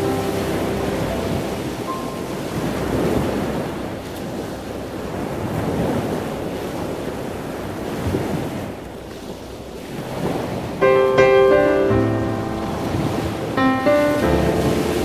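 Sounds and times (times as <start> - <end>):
ocean surf washing in: 0.0 - 15.0.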